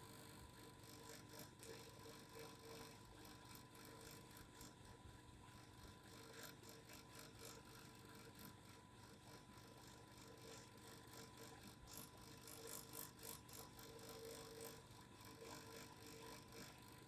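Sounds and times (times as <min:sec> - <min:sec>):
faint vibrating hum: 0:00.0 - 0:17.0.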